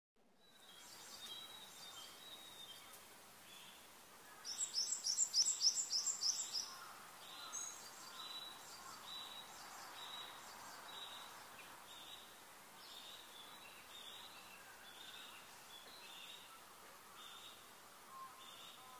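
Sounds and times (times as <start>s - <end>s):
birdsong: 0.4s - 18.9s.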